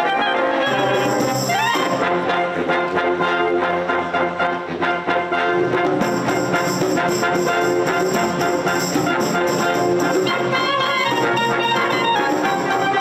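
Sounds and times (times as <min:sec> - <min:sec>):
wind band playing: 0:00.0 - 0:13.0.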